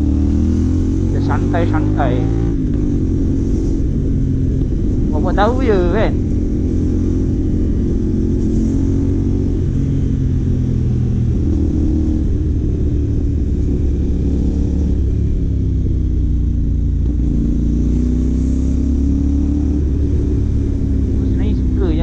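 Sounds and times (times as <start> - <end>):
motorcycle engine cruising: 0.0 - 22.0
wind and road rumble: 0.0 - 22.0.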